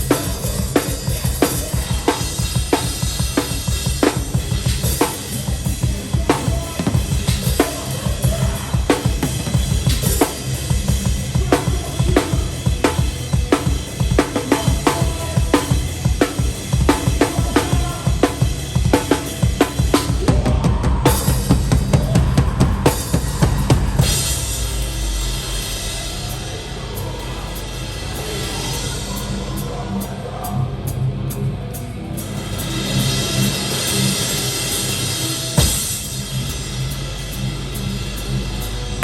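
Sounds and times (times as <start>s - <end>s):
ringing cymbals: 0.0s - 20.3s, 21.0s - 39.0s
live metal band: 0.0s - 39.0s.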